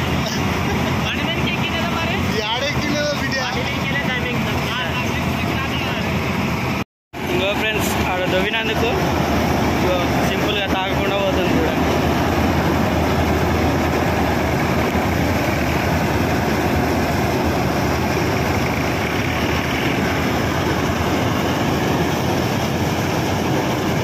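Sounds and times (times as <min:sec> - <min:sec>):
combine harvester running: 0:00.0 - 0:24.0.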